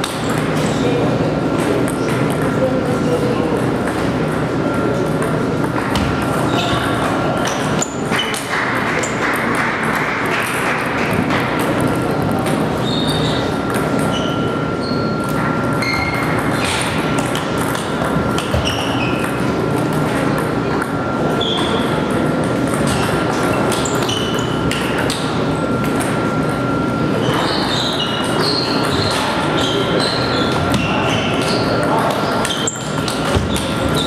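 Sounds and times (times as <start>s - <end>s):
echoing hall din: 0.0s - 34.0s
table tennis balls clicking: 3.6s - 26.6s, 27.3s - 34.0s.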